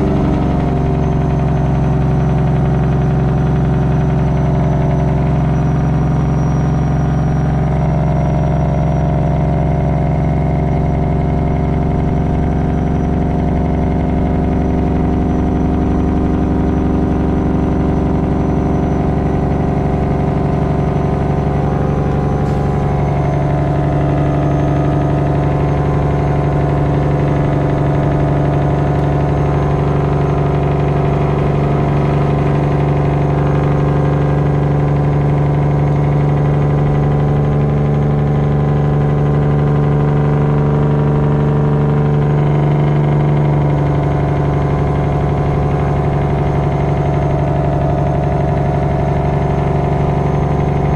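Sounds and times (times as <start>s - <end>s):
diesel truck engine braking: 0.0s - 50.9s.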